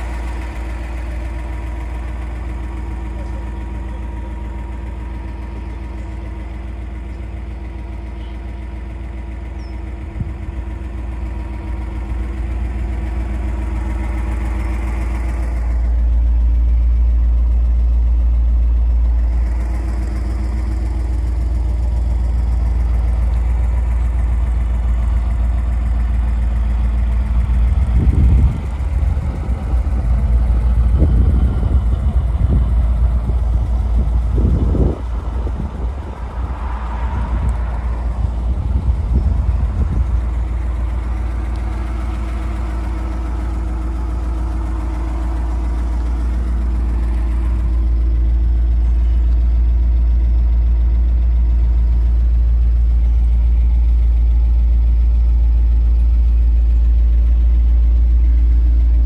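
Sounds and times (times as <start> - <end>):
car engine idling: 0.0 - 59.0
low engine thumps: 0.0 - 59.0.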